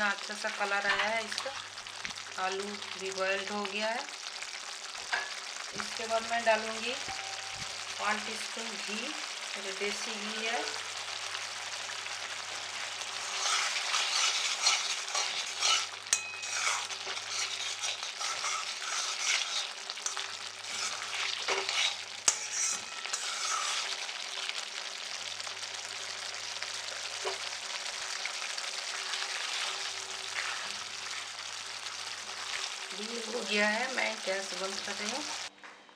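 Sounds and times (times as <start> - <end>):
curry sizzling in a pan: 0.0 - 35.5.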